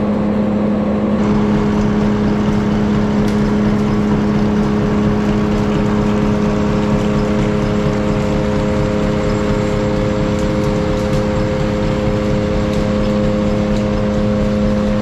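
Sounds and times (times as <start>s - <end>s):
machinery droning: 0.0s - 15.0s
water washing across deck: 1.2s - 15.0s.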